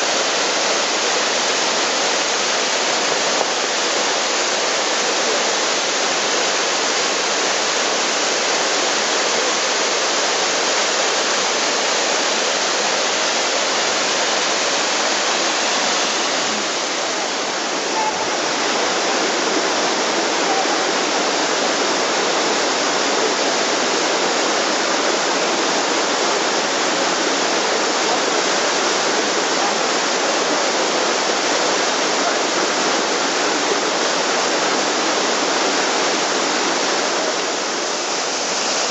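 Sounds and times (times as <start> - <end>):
waterfall pouring onto rocks: 0.0 - 38.9.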